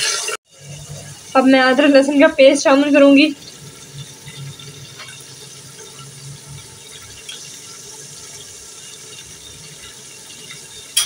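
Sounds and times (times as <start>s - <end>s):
hot oil sizzling in pot: 0.0s - 11.0s.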